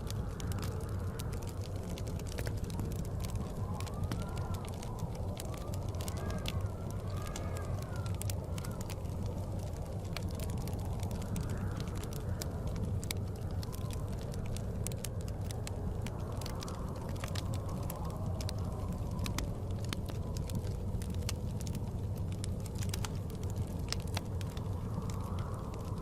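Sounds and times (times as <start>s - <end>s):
blizzard wind rumble: 0.0s - 26.0s
wood fire crackling and popping: 0.0s - 26.0s.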